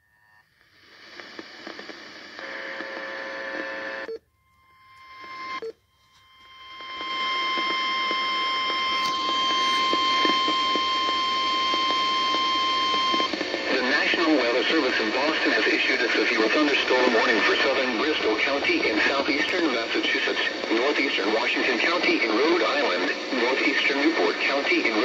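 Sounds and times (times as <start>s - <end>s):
radio static hiss: 0.5s - 4.1s, 6.4s - 25.0s.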